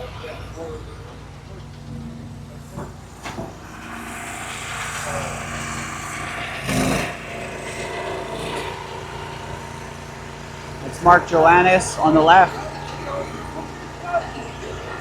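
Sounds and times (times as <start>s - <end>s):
hydraulic wood splitter engine: 0.0s - 15.0s.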